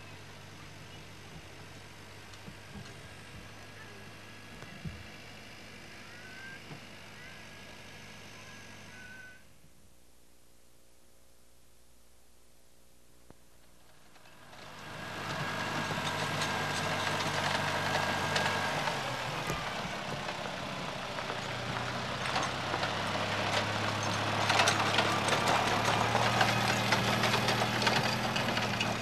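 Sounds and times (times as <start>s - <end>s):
tractor engine running: 0.0s - 9.3s, 13.5s - 29.0s.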